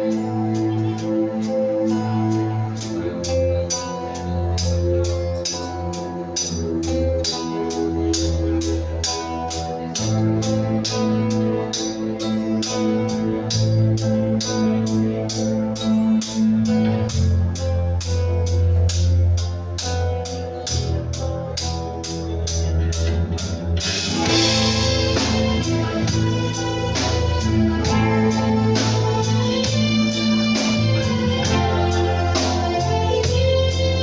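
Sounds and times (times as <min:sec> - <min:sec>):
instrumental band music: 0:00.0 - 0:34.0.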